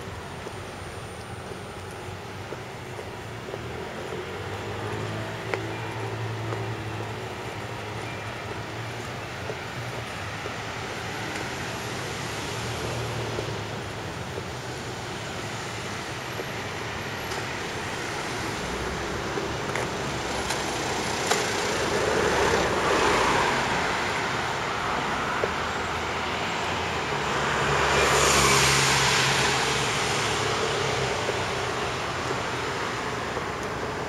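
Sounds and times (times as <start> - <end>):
background traffic noise: 0.0 - 34.0
vehicles passing: 0.0 - 34.0.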